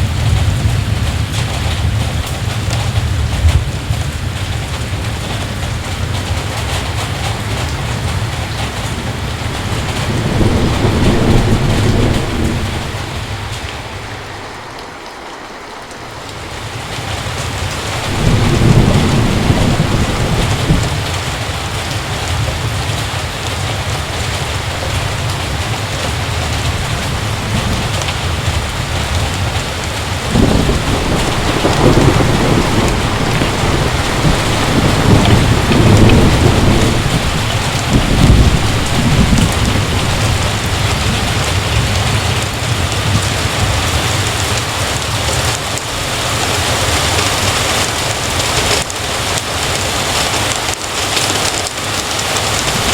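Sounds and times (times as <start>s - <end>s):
heavy rain falling: 0.0s - 52.9s
thunder rumbling: 0.0s - 52.9s.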